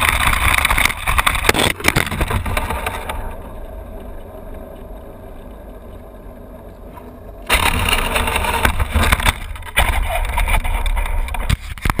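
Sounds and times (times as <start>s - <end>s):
quiet low rumble: 0.0s - 11.6s
rc truck rattling and knocking: 0.0s - 12.0s.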